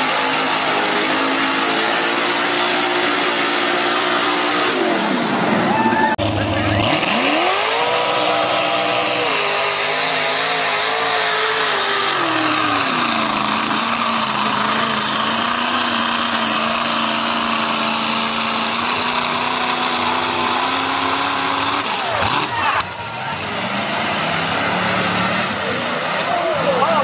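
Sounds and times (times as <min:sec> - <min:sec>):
truck engine at high revs: 0:00.0 - 0:27.0.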